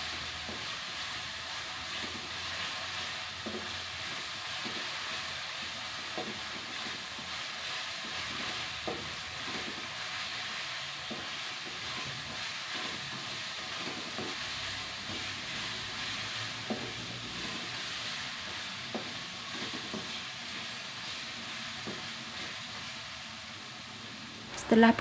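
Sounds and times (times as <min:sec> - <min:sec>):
spice paste sizzling in oil: 0:00.0 - 0:25.0.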